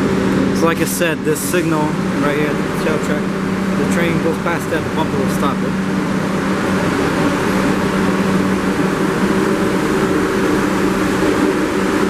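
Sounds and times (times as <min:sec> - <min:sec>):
subway train idling hum: 0:00.0 - 0:12.0.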